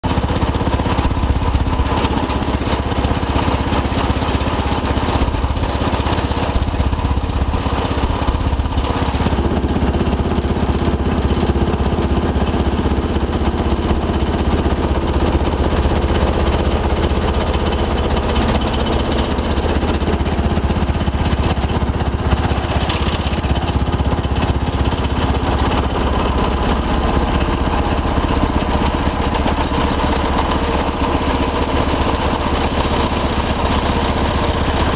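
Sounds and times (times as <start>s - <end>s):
compactor plate vibrating: 0.0s - 34.9s
diesel engine running: 0.0s - 34.9s.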